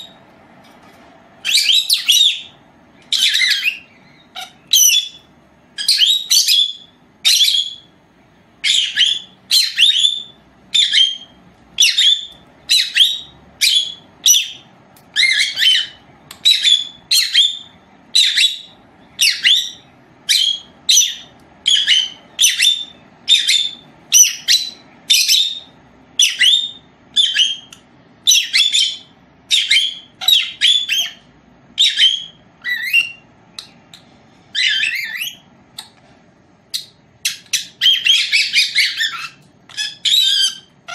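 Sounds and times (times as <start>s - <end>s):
lovebird high-pitched chirps: 1.4s - 7.9s, 8.6s - 36.0s, 36.7s - 40.9s.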